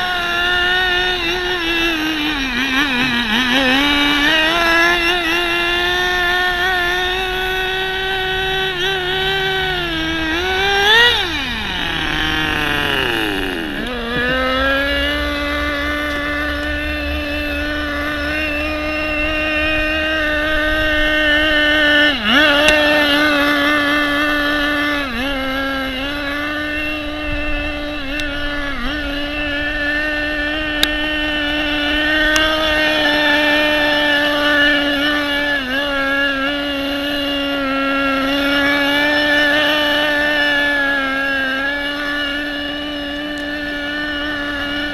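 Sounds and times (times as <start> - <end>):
model car engine buzzing whine: 0.0 - 44.9.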